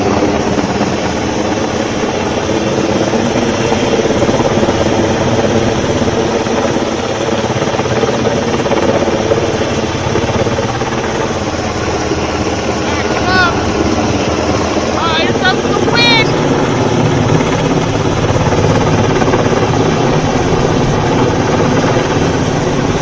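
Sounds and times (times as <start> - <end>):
helicopter rotor and engines drone: 0.0 - 23.0.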